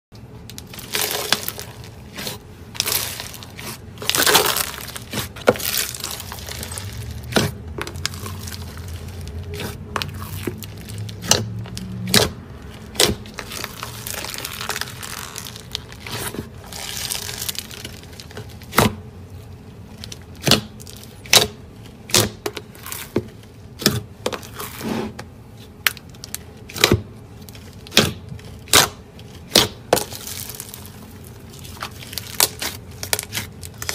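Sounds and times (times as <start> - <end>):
slime crunchy crackles: 0.2 - 33.9.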